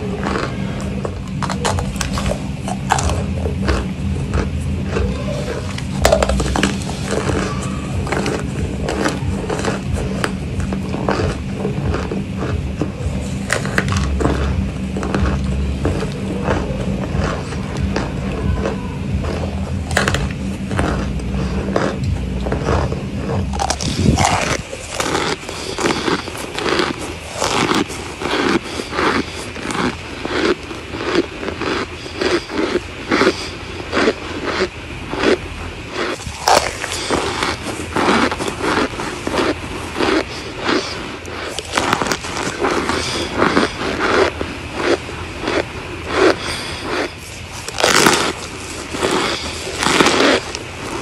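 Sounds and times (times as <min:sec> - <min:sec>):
crunchy chewing: 0:00.0 - 0:51.0
steady low hum: 0:00.0 - 0:51.0.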